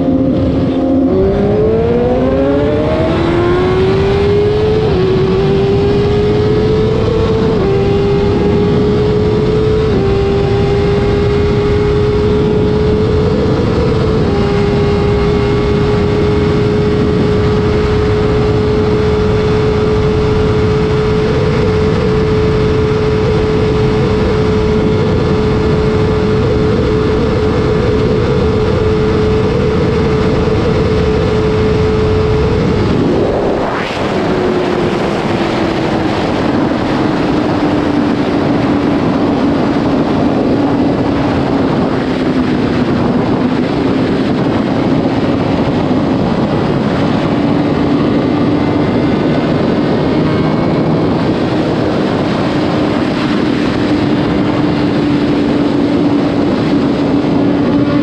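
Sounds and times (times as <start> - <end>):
heavy wind noise: 0.0 - 58.0
motorcycle engine running: 0.0 - 58.0.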